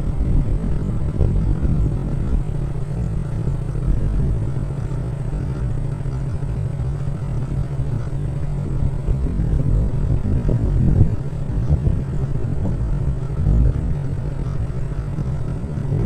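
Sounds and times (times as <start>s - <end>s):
motorbike engine running: 0.0s - 16.0s
wind rumbling on microphone: 0.0s - 16.0s.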